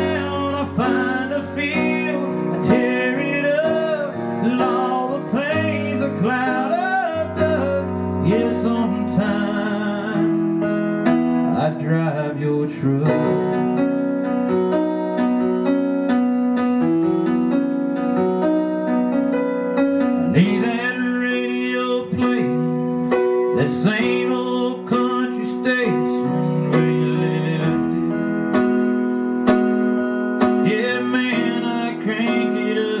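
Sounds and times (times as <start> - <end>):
electric keyboard piano chords: 0.0 - 33.0.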